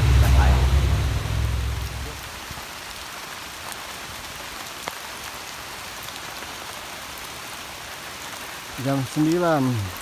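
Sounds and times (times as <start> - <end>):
rain falling on foliage: 0.0 - 10.0.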